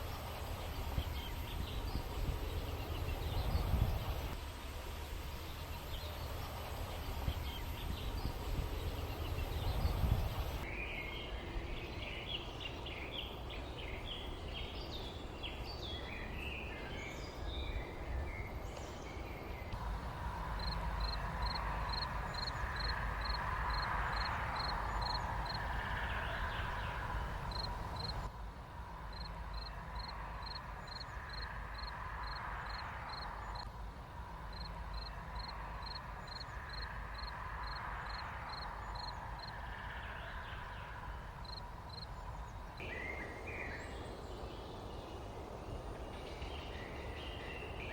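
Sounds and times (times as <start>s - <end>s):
small birds chirping: 0.0s - 4.4s, 5.0s - 28.3s, 34.5s - 47.9s
steady low rumble: 0.0s - 47.9s.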